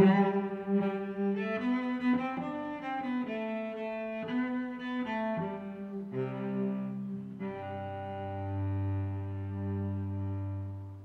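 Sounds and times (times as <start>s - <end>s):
instrumental music with held notes: 0.0s - 11.0s.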